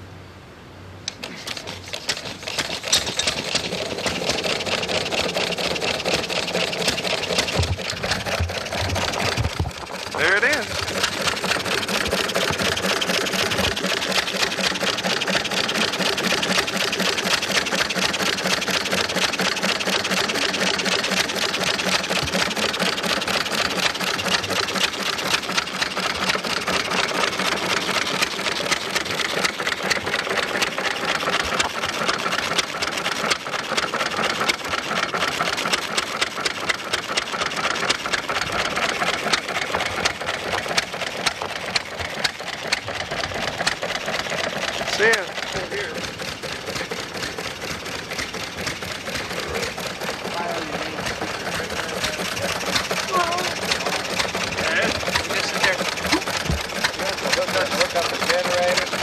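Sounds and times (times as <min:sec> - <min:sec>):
stationary engine clattering: 0:01.1 - 0:59.0.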